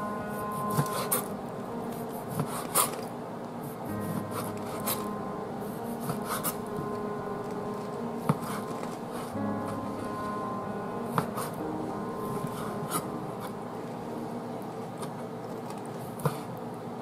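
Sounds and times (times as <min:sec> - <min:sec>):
music: 0:00.0 - 0:15.4.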